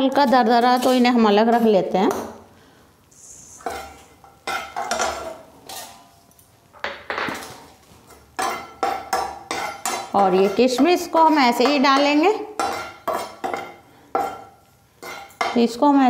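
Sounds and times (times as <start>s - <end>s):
spoon scraping in frying pan: 0.0s - 2.3s, 3.1s - 6.2s, 7.3s - 15.6s.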